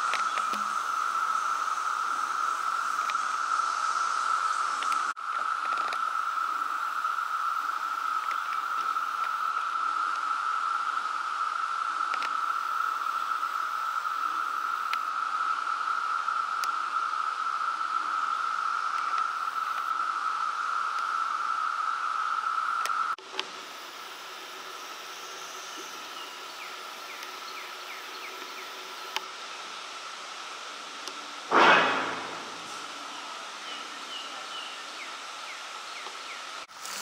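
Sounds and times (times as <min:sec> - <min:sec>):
insect chorus droning: 0:00.0 - 0:37.0.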